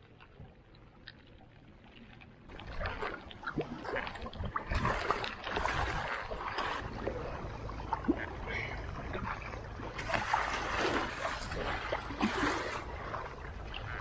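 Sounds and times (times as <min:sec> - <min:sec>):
paddle splashing in river water: 0:00.0 - 0:14.0.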